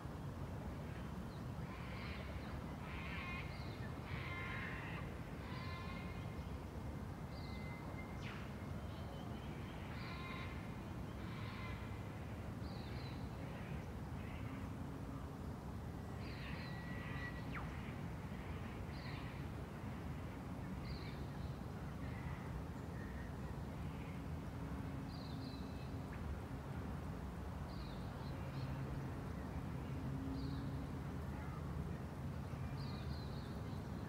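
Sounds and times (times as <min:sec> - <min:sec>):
steady low background noise: 0:00.0 - 0:34.0.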